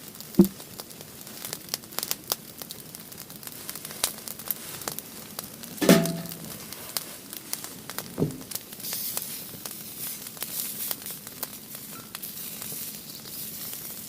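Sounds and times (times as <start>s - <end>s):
fire hissing: 0.0s - 14.0s
firewood crackling and popping: 0.0s - 14.0s.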